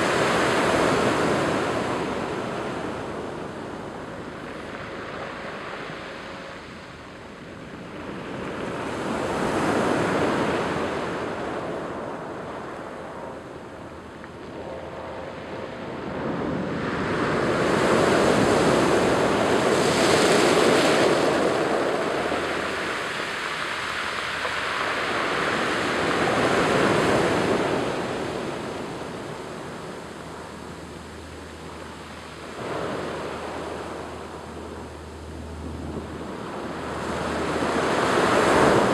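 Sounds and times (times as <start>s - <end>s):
surf washing over pebble beach: 0.0s - 6.8s, 14.5s - 38.9s.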